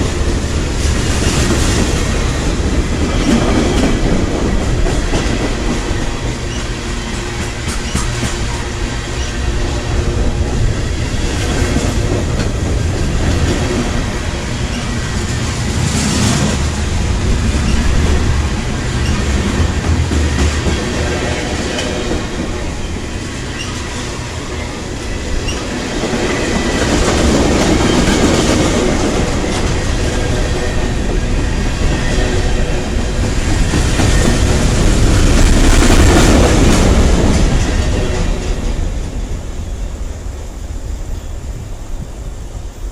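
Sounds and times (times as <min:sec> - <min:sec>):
freight train rumbling and rattling: 0:00.0 - 0:42.9.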